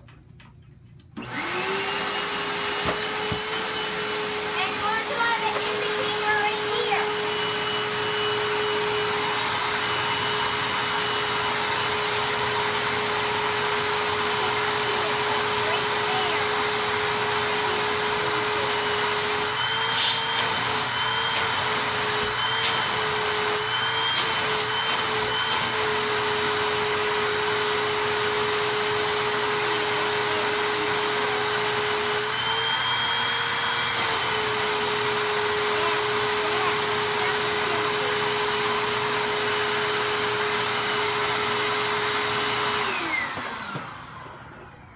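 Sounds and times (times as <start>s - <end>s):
vacuum cleaner running: 1.2s - 44.9s.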